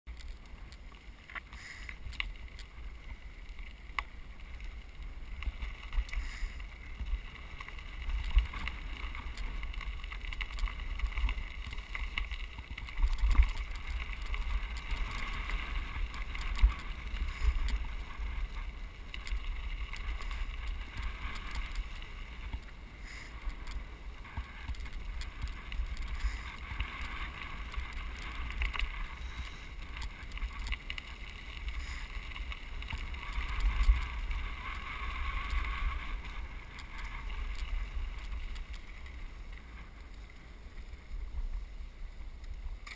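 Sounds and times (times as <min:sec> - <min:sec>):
bicycle tyres crunching gravel: 0:00.1 - 0:42.9.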